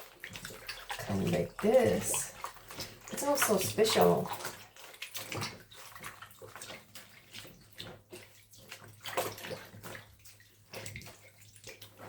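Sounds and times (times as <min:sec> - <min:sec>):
water and wet fabric sloshing: 0:00.0 - 0:12.0.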